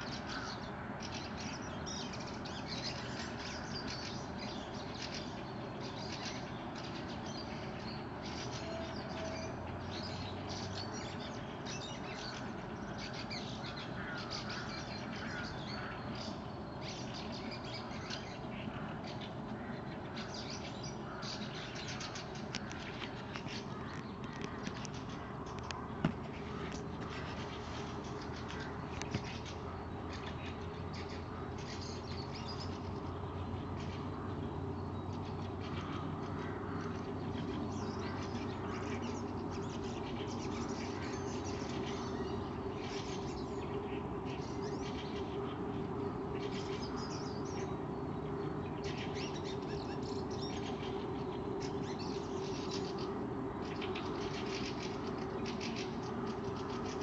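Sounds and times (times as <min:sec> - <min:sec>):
birds twittering and chirping: 0:00.0 - 0:57.0
low steady hum: 0:00.0 - 0:57.0.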